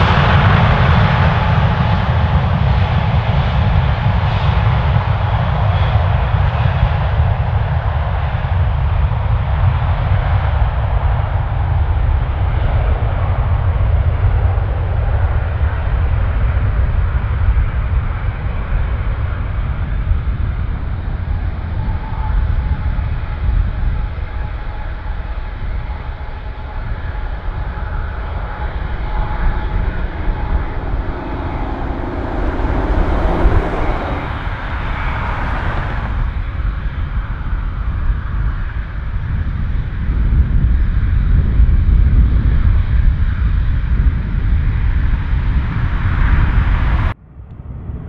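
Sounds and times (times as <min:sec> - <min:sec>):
jet engines roaring at takeoff: 0:00.0 - 0:48.0.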